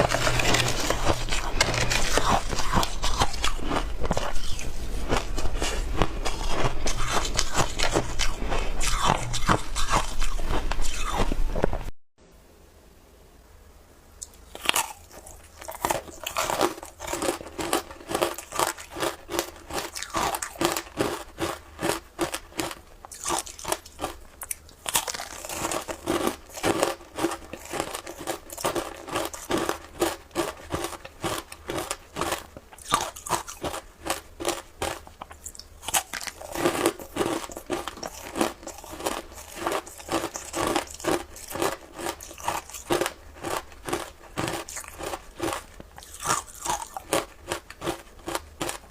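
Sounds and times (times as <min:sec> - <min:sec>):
ice crunched and chewed: 0:00.0 - 0:11.9, 0:14.2 - 0:48.9.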